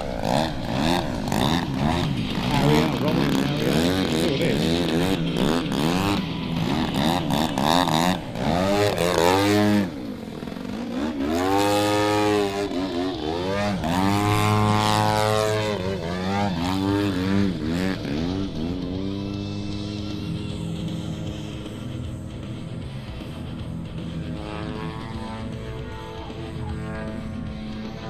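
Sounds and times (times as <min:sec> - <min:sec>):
model plane engine passing by: 0:00.0 - 0:28.0.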